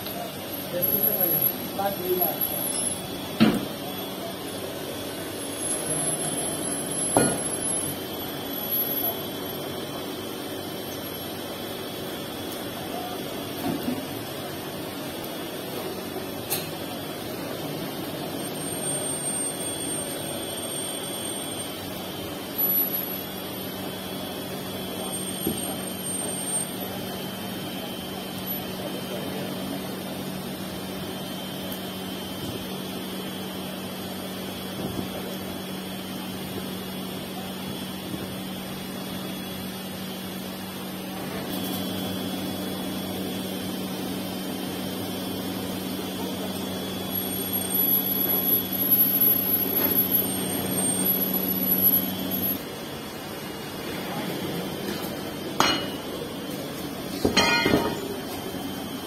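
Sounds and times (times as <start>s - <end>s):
running machinery drone: 0.0s - 59.0s.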